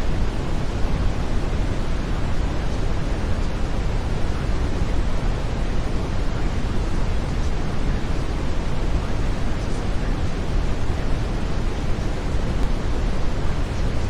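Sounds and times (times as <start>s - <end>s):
brown noise: 0.0s - 14.0s.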